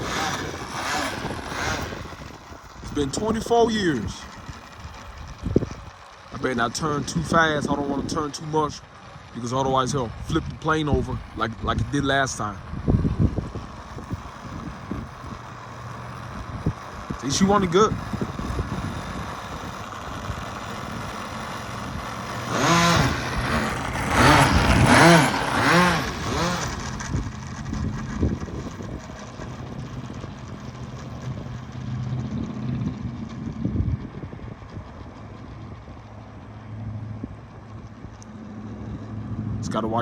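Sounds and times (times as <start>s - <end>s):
model plane engine idling and revving: 0.0s - 40.0s.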